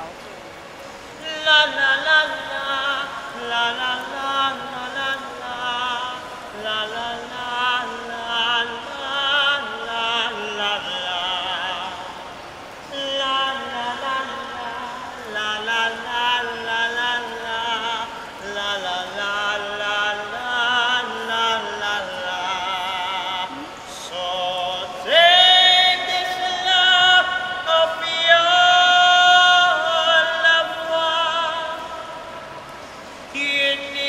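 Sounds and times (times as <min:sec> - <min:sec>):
person singing operatically: 0:01.2 - 0:12.2, 0:12.8 - 0:32.6, 0:33.3 - 0:34.0.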